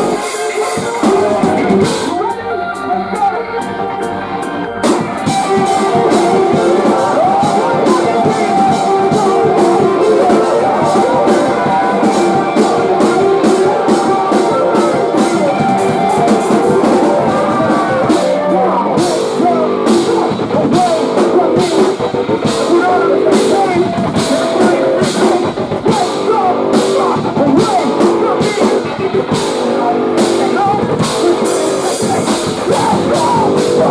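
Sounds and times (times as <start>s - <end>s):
rapid drum and cymbal hits: 0.0s - 2.4s, 4.8s - 33.9s
rock band playing live: 0.0s - 33.9s.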